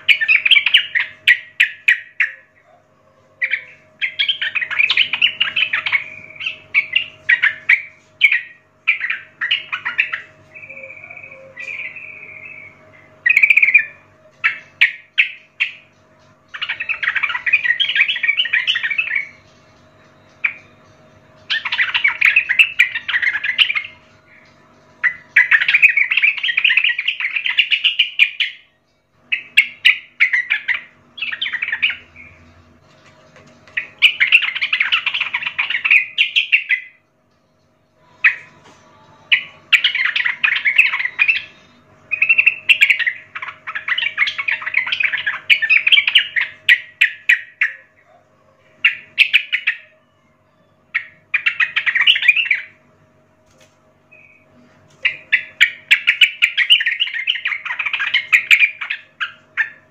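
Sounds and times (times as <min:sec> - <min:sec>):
bird chattering song: 0:00.0 - 0:52.9, 0:54.1 - 0:59.9.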